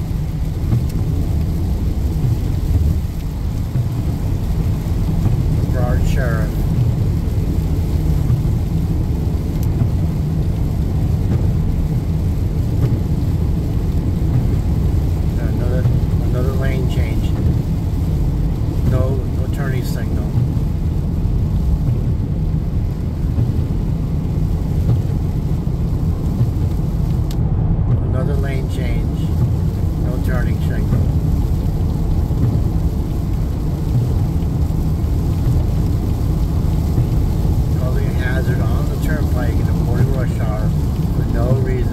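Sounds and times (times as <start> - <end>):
rain noise: 0.0 - 41.9
road rumble inside car: 0.0 - 41.9.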